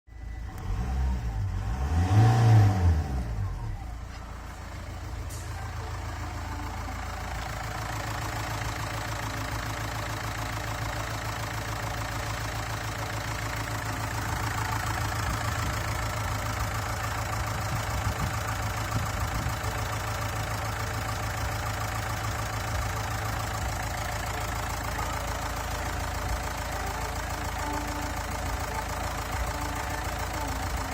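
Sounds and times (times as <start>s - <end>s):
engine revving and idling: 0.1s - 30.9s.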